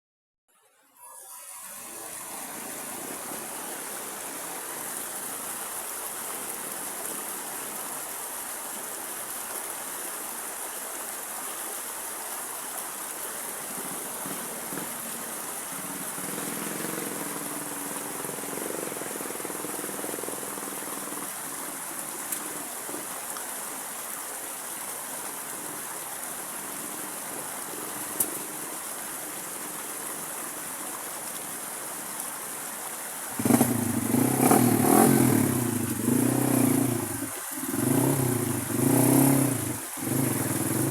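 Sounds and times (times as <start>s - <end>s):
river water flowing: 0.8s - 40.9s.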